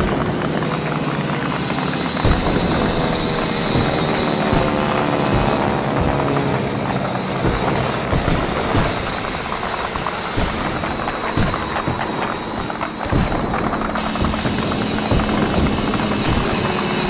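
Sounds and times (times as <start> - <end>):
electric motor whining: 0.0 - 17.0
gravel crunching under tyres: 2.0 - 16.9.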